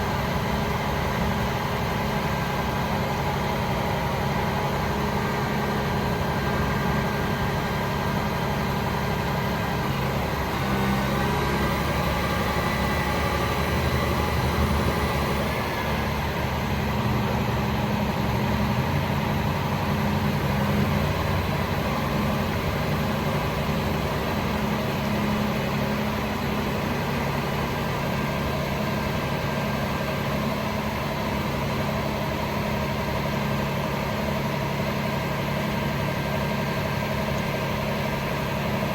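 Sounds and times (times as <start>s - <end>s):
diesel truck idling: 0.0s - 38.9s.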